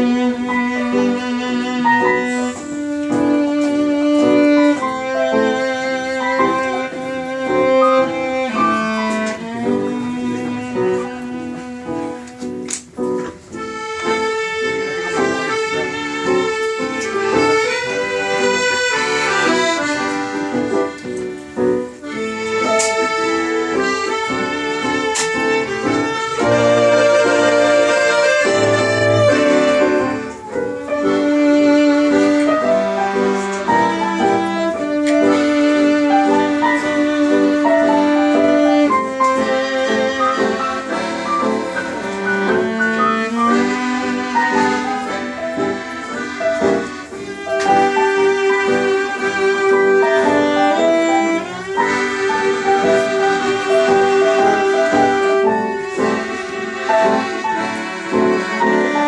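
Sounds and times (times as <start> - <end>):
accordion melody: 0.0 - 59.0.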